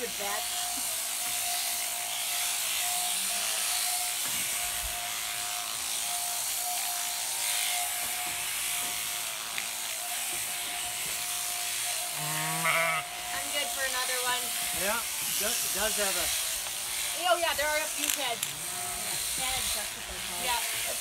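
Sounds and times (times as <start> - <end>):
electric shearing machines humming: 0.0 - 21.0.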